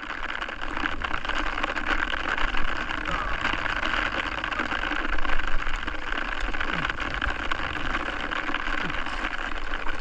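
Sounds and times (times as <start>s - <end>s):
sea noise: 0.0s - 10.0s.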